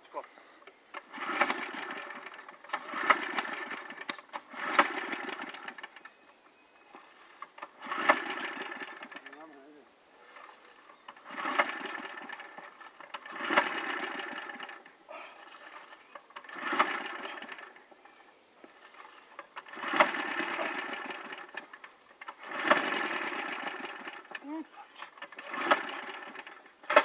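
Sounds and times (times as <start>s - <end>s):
lawn mower pull-start whir: 0.2s - 27.0s.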